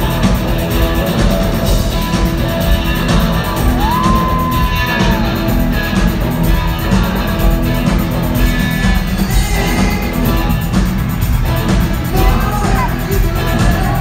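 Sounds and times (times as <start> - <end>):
rock band playing loudly: 0.0 - 14.0.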